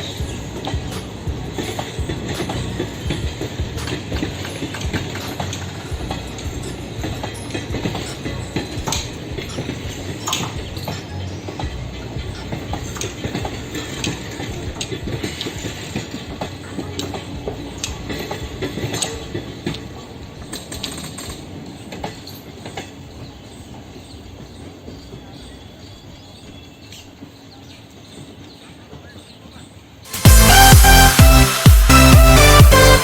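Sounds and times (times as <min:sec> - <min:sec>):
train wheels clicking over rail joints: 0:00.0 - 0:30.1.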